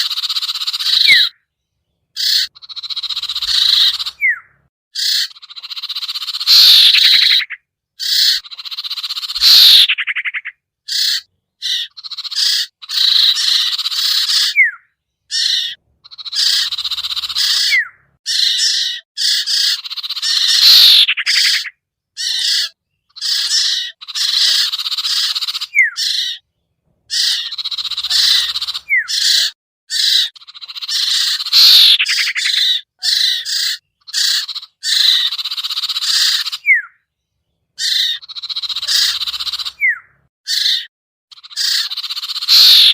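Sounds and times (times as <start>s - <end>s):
bird harsh chattering calls: 0.0s - 1.5s, 2.1s - 26.5s, 27.1s - 37.1s, 37.7s - 42.9s.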